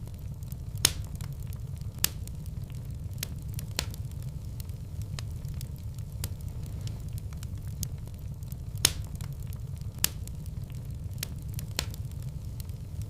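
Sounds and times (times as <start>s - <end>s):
fire crackling: 0.0s - 13.0s
fire flames rumbling: 0.0s - 13.0s
loud fire pops: 0.0s - 13.0s.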